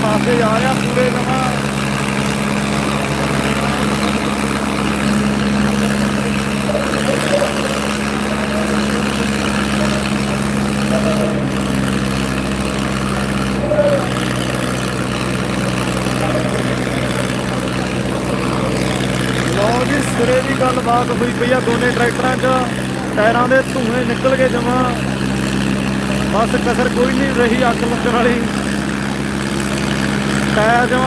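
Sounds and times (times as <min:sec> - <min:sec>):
tractor diesel engines under load: 0:00.0 - 0:31.0.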